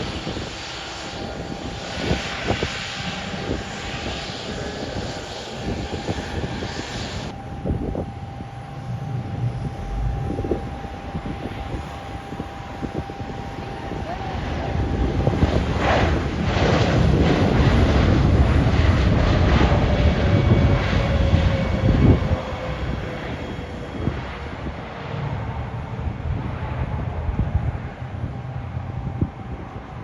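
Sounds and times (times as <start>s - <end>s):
airliner engines rumbling: 0.0s - 30.0s
engine whine sliding down: 0.2s - 29.9s.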